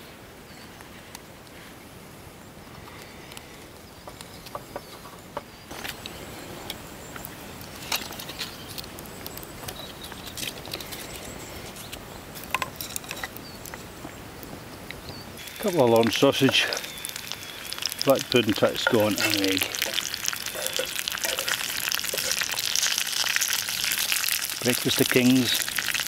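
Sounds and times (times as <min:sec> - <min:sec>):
fire crackling and popping: 0:02.6 - 0:26.0.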